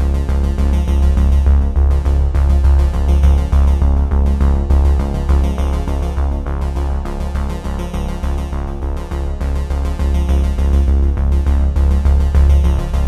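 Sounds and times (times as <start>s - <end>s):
electronic music: 0.0s - 13.0s.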